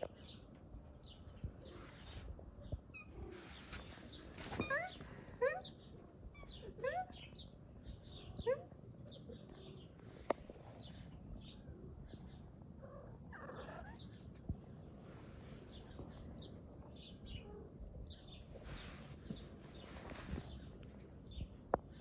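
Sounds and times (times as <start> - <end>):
faint bird chirps: 0.0 - 22.0
low background noise: 0.0 - 22.0.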